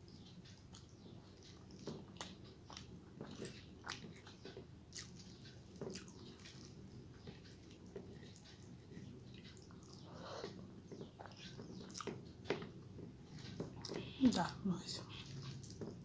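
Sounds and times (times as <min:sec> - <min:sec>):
close chewing: 0:00.2 - 0:14.6.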